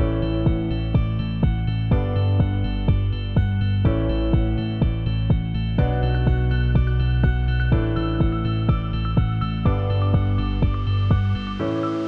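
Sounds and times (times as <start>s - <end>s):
soft instrumental music with beat: 0.0s - 12.0s.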